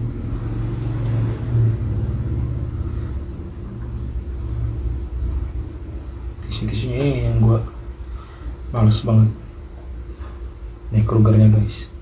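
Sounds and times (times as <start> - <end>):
low hum: 0.0 - 12.0
thin high whine: 0.0 - 12.0.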